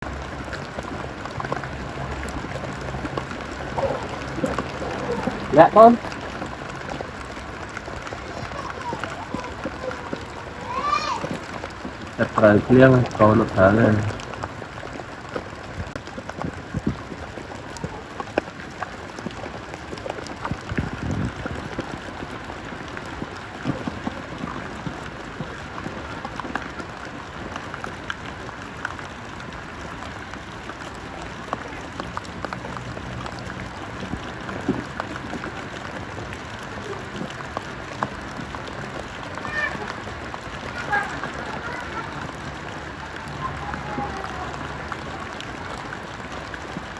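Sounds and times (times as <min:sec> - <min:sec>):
rain pattering: 0:00.0 - 0:46.9
ticks of raindrops: 0:00.0 - 0:46.9.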